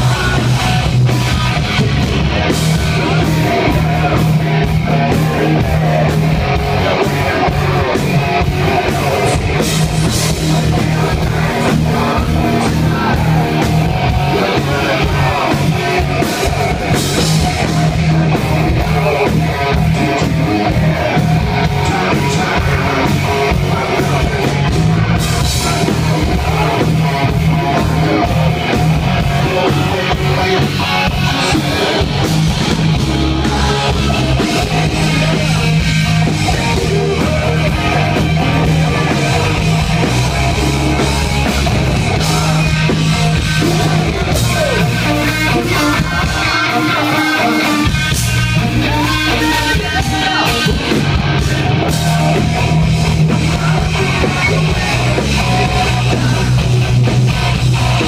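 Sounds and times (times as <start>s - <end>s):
drum kit: 0.0s - 58.0s
electric bass line: 0.0s - 58.0s
electric guitars: 0.0s - 58.0s
person singing: 0.0s - 58.0s.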